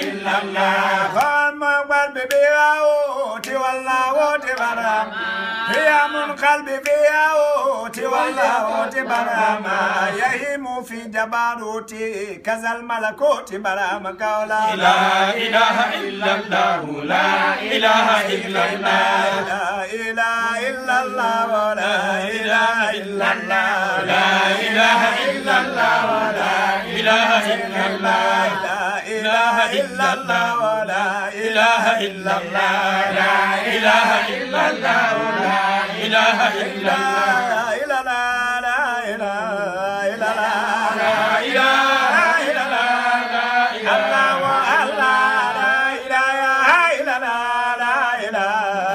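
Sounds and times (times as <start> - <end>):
men chanting devotional song: 0.0 - 48.9.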